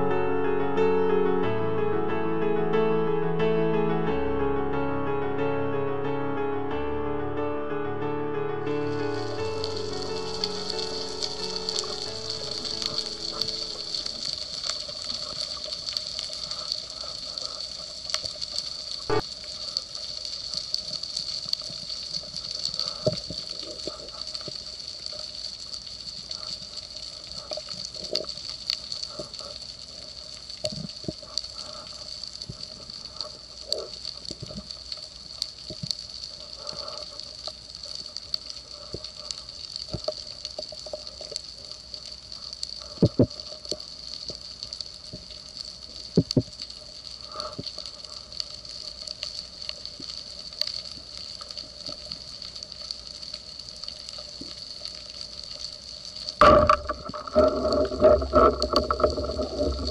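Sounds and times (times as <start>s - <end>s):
underwater crackle and hiss: 8.8s - 59.9s.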